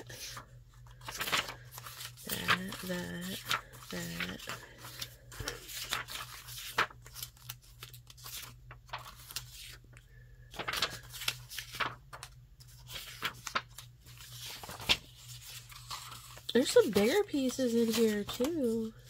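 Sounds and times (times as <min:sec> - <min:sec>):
paper rustling and sliding: 0:00.0 - 0:09.8, 0:10.5 - 0:18.9.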